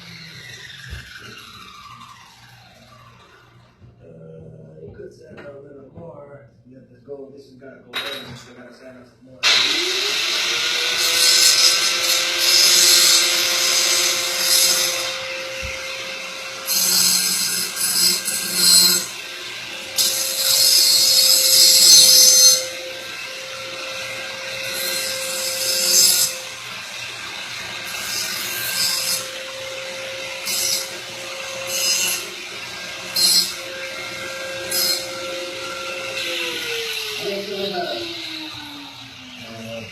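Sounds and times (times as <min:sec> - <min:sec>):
small power tool running: 0:00.0 - 0:03.8, 0:09.4 - 0:39.9.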